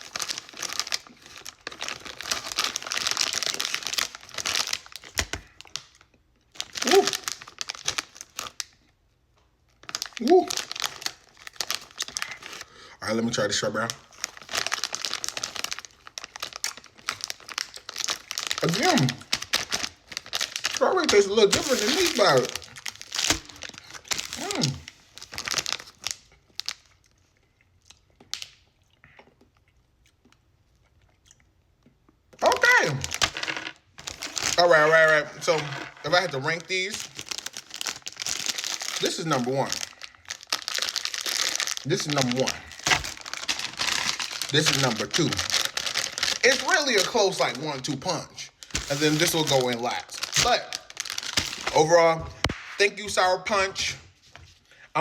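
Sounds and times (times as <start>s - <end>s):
plastic packet crinkling: 0.0s - 8.8s, 9.7s - 27.1s, 32.4s - 53.9s.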